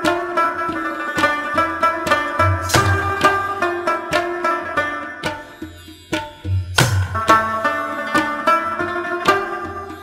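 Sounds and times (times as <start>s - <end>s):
drum accompaniment: 0.0s - 10.0s
plucked string notes: 0.0s - 10.0s.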